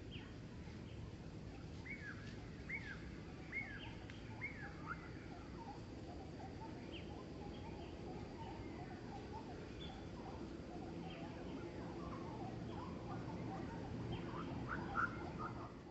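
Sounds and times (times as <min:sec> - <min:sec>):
faint low chirps: 0:00.0 - 0:15.7.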